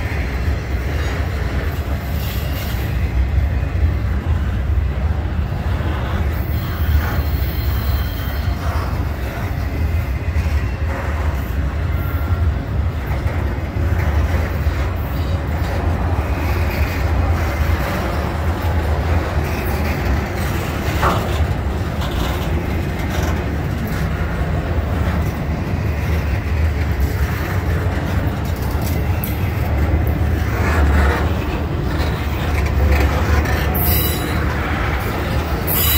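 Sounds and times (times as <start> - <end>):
freight train wheels rumbling: 0.0 - 35.9.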